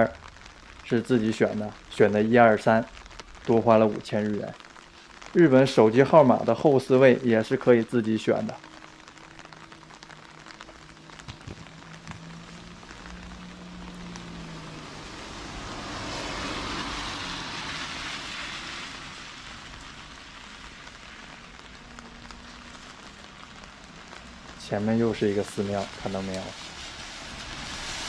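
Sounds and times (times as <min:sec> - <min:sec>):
rain on a wet road: 0:00.0 - 0:28.0
rushing hiss: 0:00.0 - 0:28.0.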